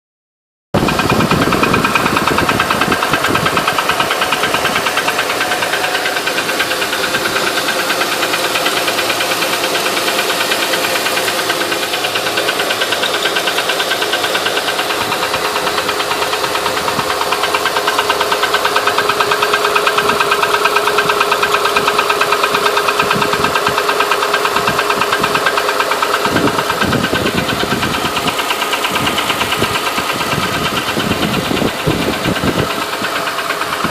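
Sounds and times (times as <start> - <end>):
engine running: 0.8 - 33.9
rapid engine ticking: 0.8 - 33.9.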